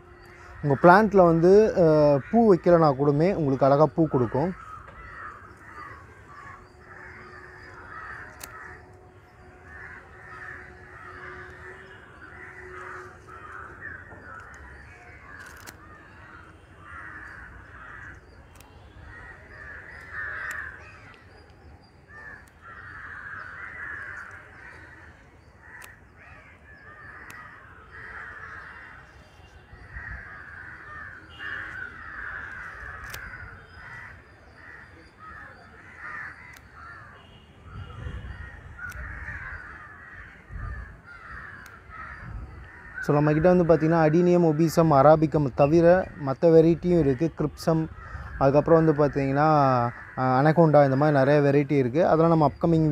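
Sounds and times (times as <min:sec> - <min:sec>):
crows cawing: 0:00.0 - 0:52.9.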